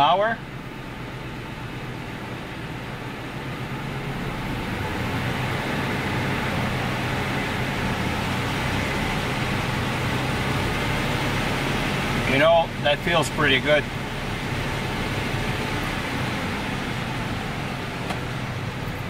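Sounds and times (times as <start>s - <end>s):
truck engine and driveline spinning: 0.0s - 19.0s.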